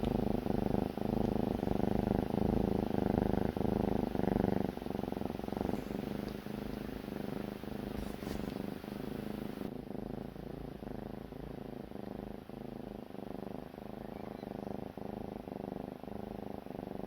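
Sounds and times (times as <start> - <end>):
kitten snoring: 0.0 - 17.0.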